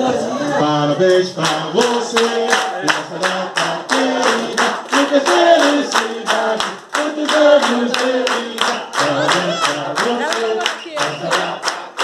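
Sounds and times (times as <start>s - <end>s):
several voices singing: 0.0s - 12.0s
singing through loudspeaker: 0.0s - 12.0s
hands clapping a steady beat: 1.1s - 12.0s.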